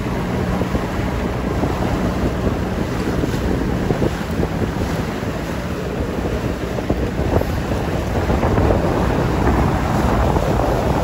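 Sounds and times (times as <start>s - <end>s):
choppy seawater splashing: 0.0s - 11.0s
wind buffeting microphone: 0.0s - 11.0s.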